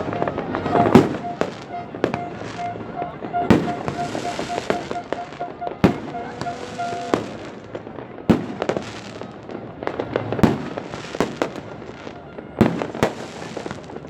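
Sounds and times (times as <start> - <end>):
fireworks bangs: 0.0 - 14.0
small firework pops: 0.0 - 14.0.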